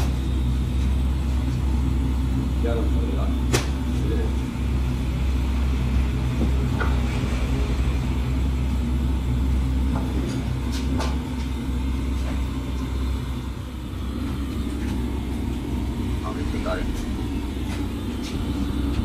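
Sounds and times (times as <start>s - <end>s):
workshop machinery hum: 0.0s - 19.0s.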